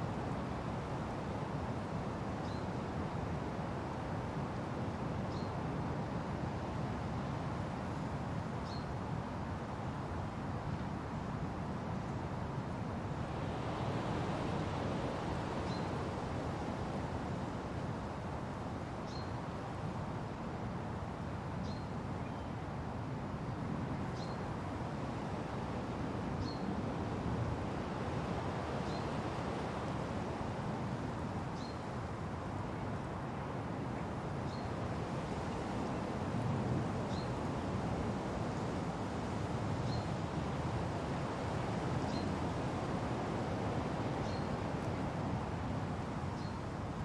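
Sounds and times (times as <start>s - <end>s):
wind through forest leaves: 0.0s - 47.0s.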